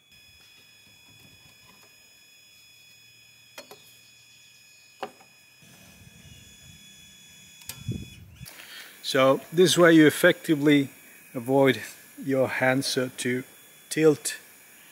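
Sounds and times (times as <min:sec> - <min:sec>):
faint steady whine: 0:00.0 - 0:14.9.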